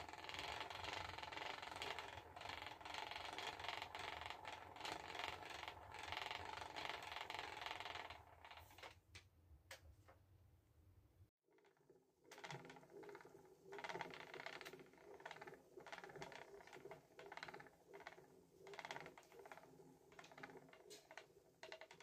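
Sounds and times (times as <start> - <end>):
spinning wheel chattering: 0.0 - 8.9, 11.7 - 22.0.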